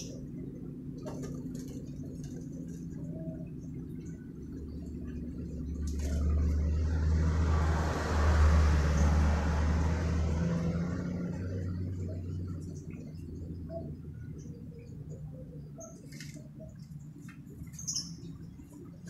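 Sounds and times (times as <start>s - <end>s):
vehicle engine rumble passing: 0.0s - 15.8s.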